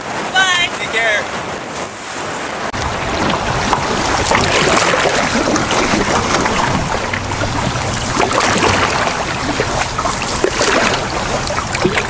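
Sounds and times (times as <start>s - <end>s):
river water rushing and splashing: 0.0s - 12.0s
wind buffeting microphone: 0.0s - 12.0s.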